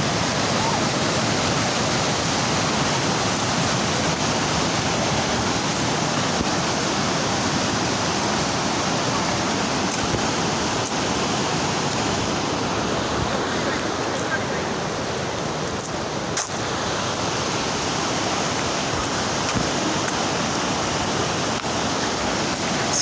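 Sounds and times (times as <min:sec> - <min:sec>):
river rushing: 0:00.0 - 0:23.0.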